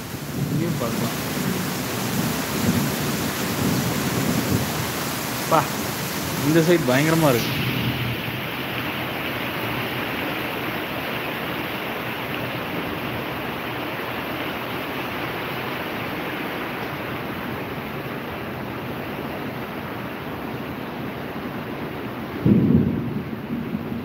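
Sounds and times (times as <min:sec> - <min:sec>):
heavy rain hissing: 0:00.0 - 0:24.0.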